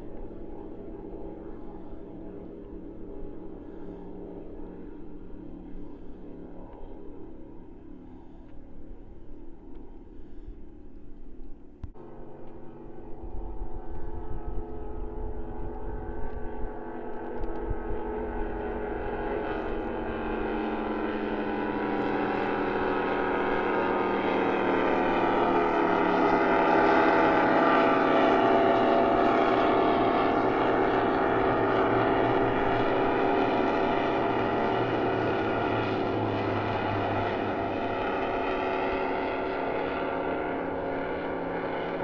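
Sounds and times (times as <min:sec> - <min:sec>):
powerboat engines passing: 0:00.0 - 0:42.0.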